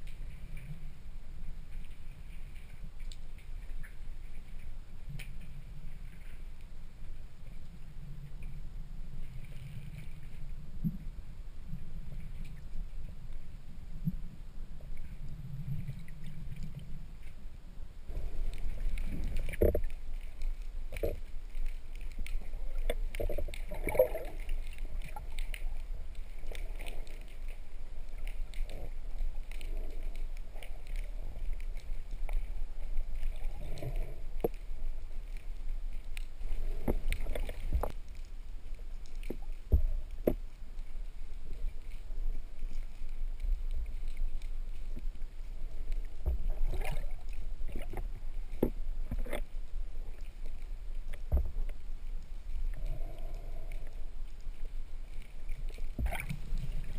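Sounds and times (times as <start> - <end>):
muffled underwater rumble: 0.0 - 56.9.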